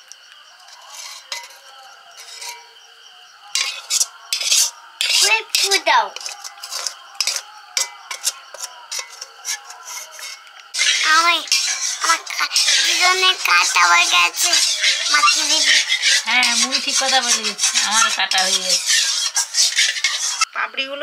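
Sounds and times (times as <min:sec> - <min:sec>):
spoon scraping metal pan: 0:00.5 - 0:02.8, 0:03.5 - 0:20.5.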